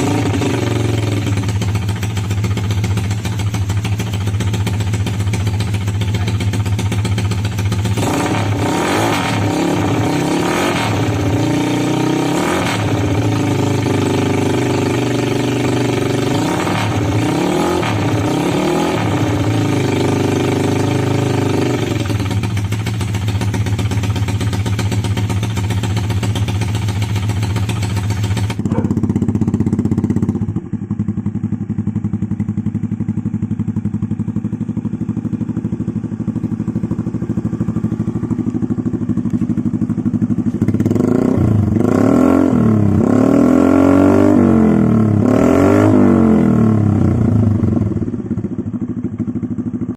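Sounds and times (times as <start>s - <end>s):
motorcycle engine idling and revving: 0.0s - 49.9s.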